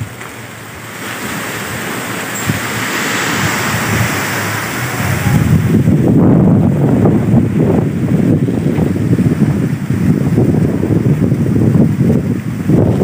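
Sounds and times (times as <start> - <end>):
wind buffeting microphone: 0.0 - 13.0
wind rushing through trees: 0.0 - 13.0.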